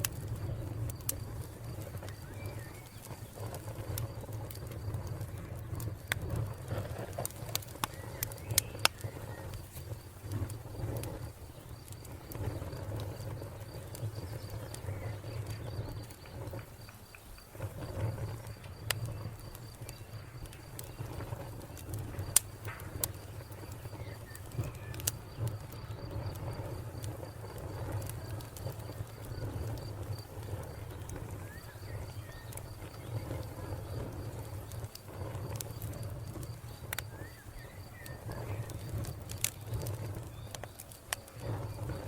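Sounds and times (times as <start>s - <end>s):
cricket trilling: 0.0s - 42.0s
low rumble of flames: 0.0s - 42.0s
wood fire crackling: 0.0s - 42.0s.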